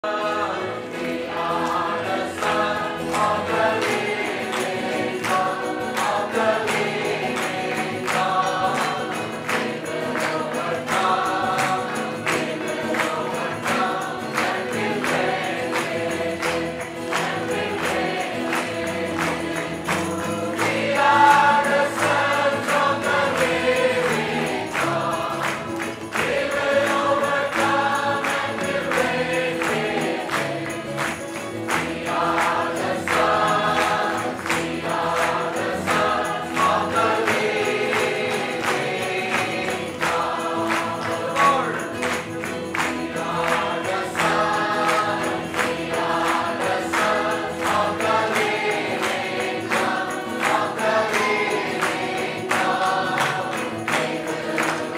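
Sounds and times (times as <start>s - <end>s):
choir singing a hymn: 0.0s - 54.9s
musical accompaniment: 0.0s - 54.9s.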